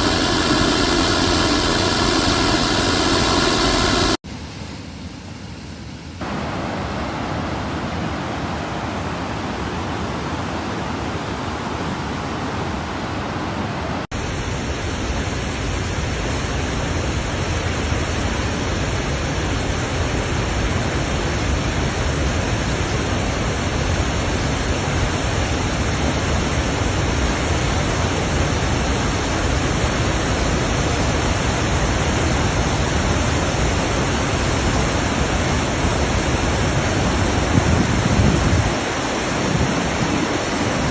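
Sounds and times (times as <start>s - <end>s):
heavy water rushing: 0.0s - 4.2s, 6.2s - 40.9s.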